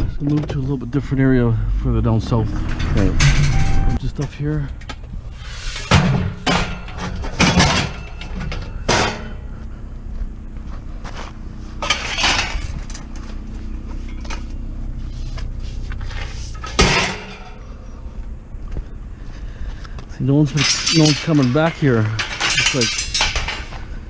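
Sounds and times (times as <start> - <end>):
steady low hum: 0.0 - 24.0
scrap metal clanking and rattling: 2.0 - 18.8, 20.2 - 24.0.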